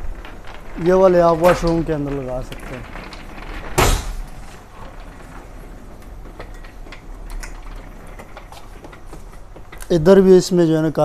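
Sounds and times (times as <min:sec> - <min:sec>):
display panels clicking and knocking: 0:00.0 - 0:09.9.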